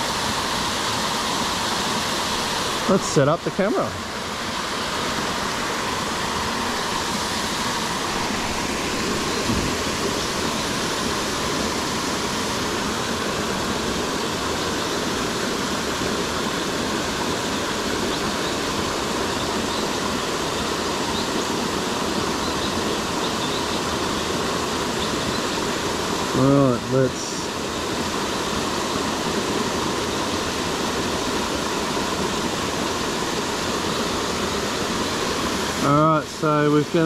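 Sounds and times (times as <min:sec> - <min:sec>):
waterfall pouring: 0:00.0 - 0:23.2, 0:23.8 - 0:37.0.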